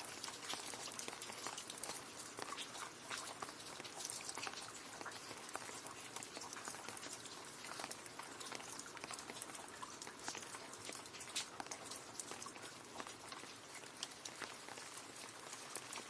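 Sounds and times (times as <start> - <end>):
rain falling into a puddle: 0.0 - 16.0.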